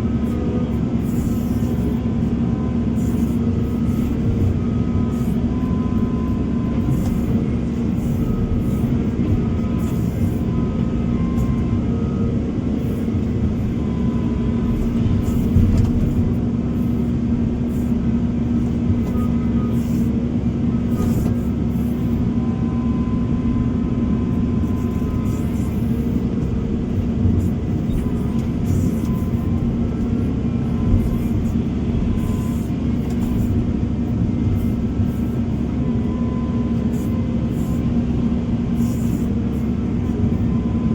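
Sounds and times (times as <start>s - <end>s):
diesel machinery engine drone: 0.0s - 40.9s
short faint whining tones: 0.0s - 40.9s.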